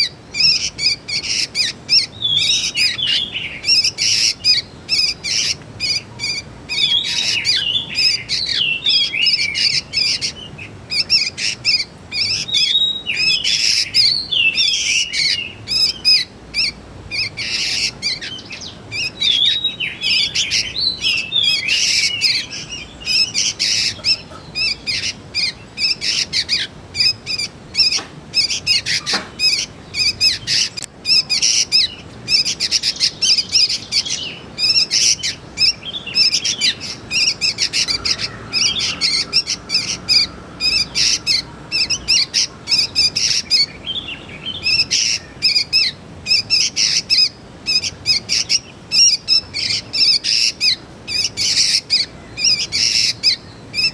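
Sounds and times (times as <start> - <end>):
young birds chirping: 0.0 - 53.9.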